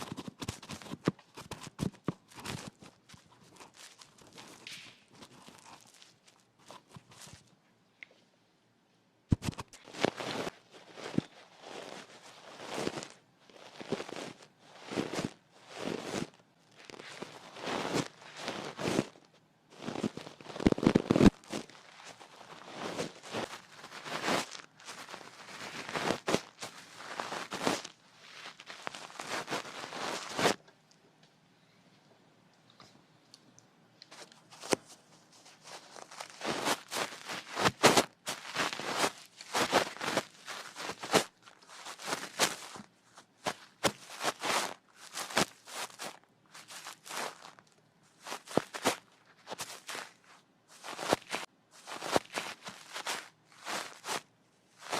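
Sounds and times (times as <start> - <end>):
scratching and rustling on microphone: 0.0 - 7.5, 9.3 - 30.6, 34.1 - 54.9
crackling: 9.3 - 31.0, 32.6 - 54.9.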